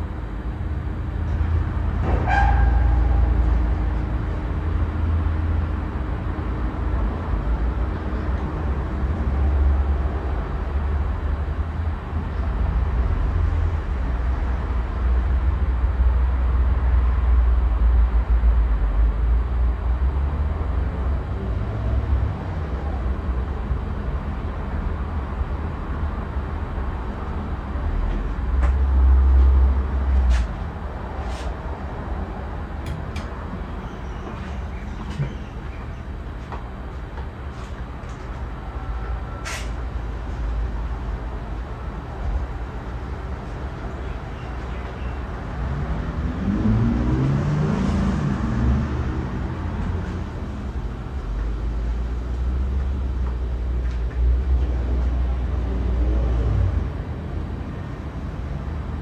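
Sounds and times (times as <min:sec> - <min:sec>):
ceiling fan whoosh and rumble: 0:00.0 - 0:59.0.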